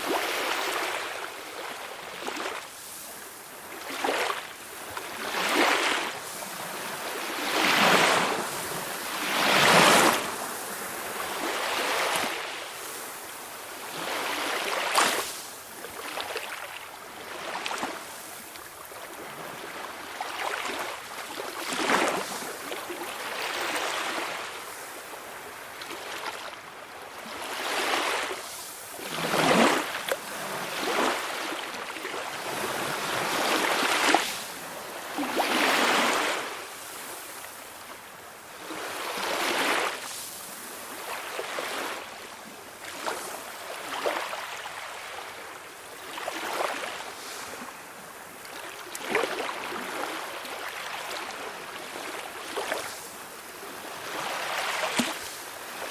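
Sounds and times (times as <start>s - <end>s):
sea waves breaking: 0.0s - 55.9s.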